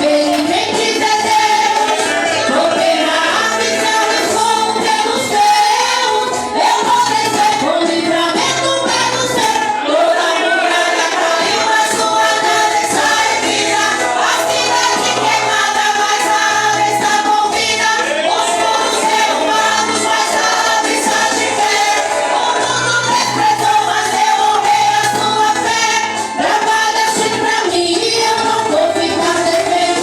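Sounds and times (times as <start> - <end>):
recorded backing track: 0.0 - 30.0
women singing in unison: 0.0 - 30.0.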